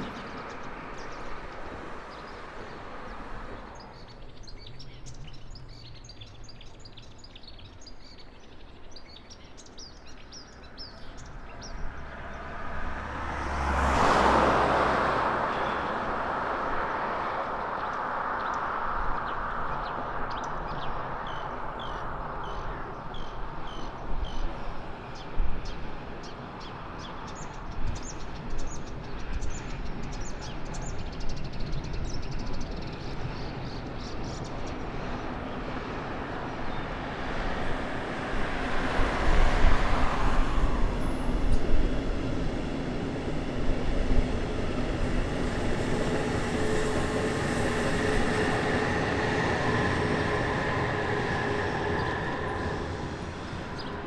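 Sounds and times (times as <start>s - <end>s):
car passing: 0.0s - 5.8s, 10.0s - 25.0s, 29.4s - 54.0s
train rumbling onto a bridge: 0.0s - 6.5s, 10.4s - 54.0s.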